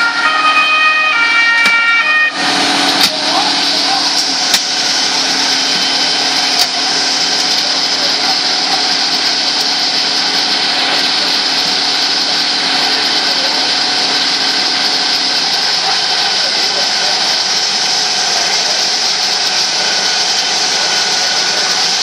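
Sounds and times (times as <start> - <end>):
motor drone: 0.0 - 22.0.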